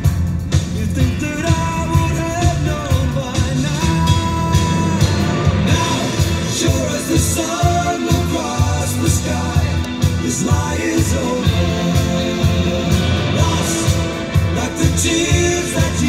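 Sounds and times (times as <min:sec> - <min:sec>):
rock music with singing: 0:00.0 - 0:16.0.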